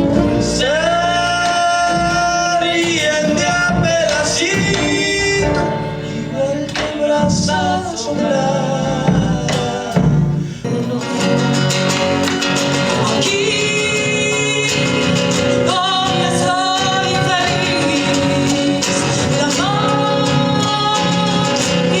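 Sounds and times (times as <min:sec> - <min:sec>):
folk music on acoustic guitars: 0:00.0 - 0:22.0.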